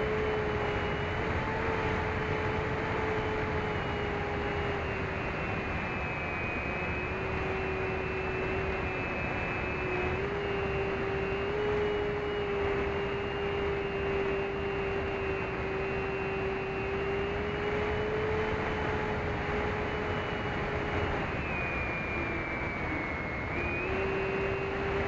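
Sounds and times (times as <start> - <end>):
electric motor whine: 0.0 - 25.0.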